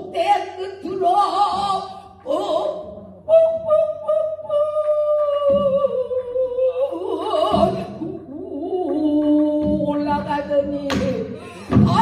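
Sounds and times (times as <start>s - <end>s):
person singing with wide vibrato: 0.0s - 12.0s.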